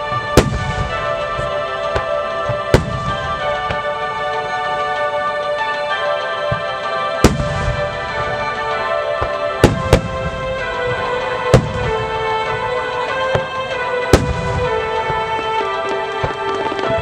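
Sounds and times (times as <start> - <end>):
firework shells bursting: 0.0 - 17.0
music: 0.0 - 17.0.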